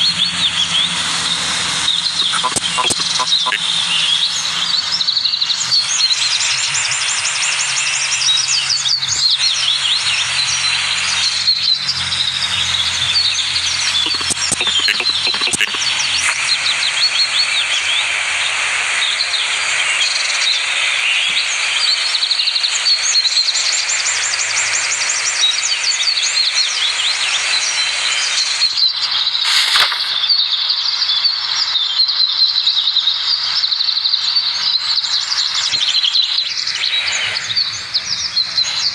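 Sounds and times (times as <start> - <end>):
small birds chirping and trilling: 0.0 - 23.6, 24.3 - 38.9.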